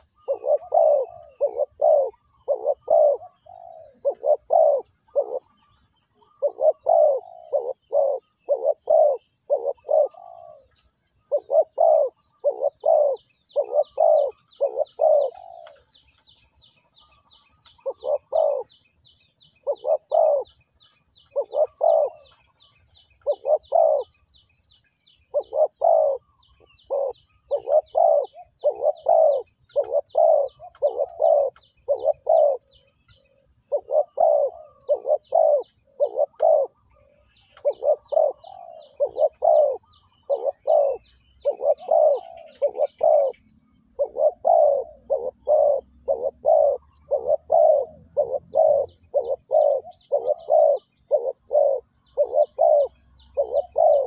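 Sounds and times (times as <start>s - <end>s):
dove cooing: 0.0s - 15.9s, 17.8s - 18.7s, 19.6s - 20.5s, 21.3s - 22.4s, 23.2s - 24.1s, 25.3s - 32.8s, 33.6s - 54.0s.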